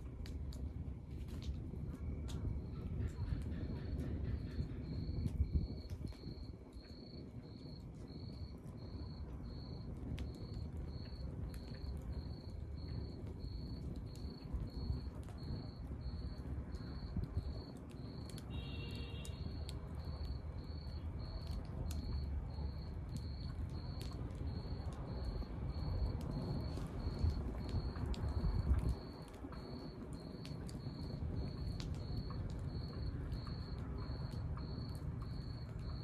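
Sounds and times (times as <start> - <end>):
wood fire crackling: 0.0 - 36.0
cricket chirping: 1.9 - 36.0.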